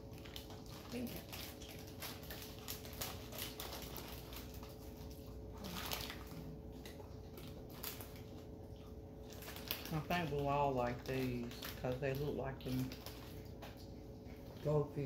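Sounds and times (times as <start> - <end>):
crackers crunching and packet crinkling: 0.0 - 15.0
faint steady hum: 0.0 - 15.0.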